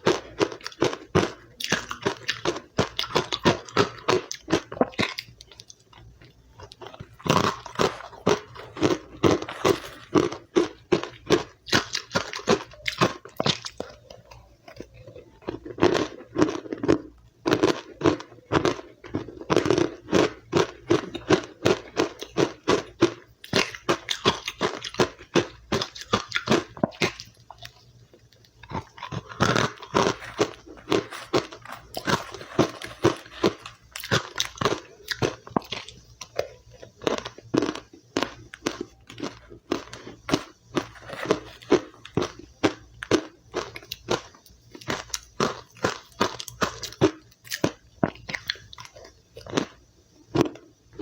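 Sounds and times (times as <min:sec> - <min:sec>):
crunching and chewing ice: 0:00.0 - 0:51.0.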